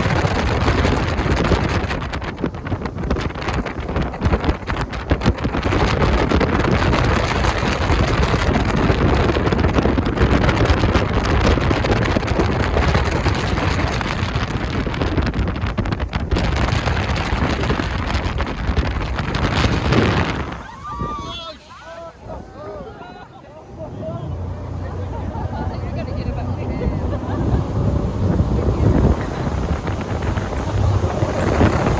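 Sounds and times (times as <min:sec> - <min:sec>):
boat rushing through spray: 0:00.0 - 0:31.9
wind buffeting microphone: 0:00.0 - 0:31.9.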